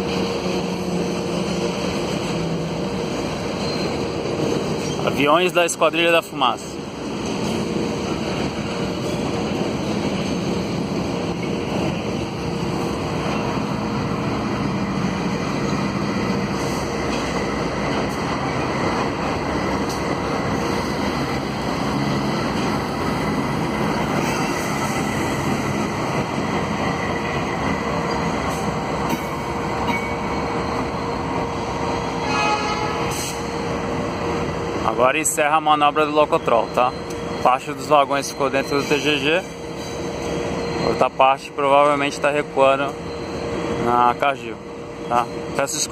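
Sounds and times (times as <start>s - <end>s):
locomotive engine and wheels rumbling: 0.0s - 45.9s.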